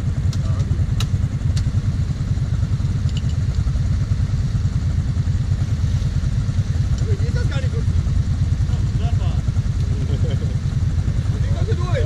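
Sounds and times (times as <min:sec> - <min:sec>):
atv engine idling: 0:00.0 - 0:12.0.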